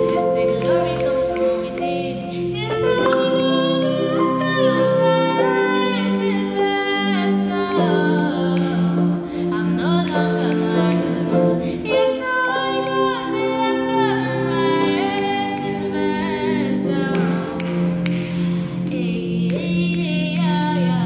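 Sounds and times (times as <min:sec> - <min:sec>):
group singing in harmony: 0:00.0 - 0:21.0.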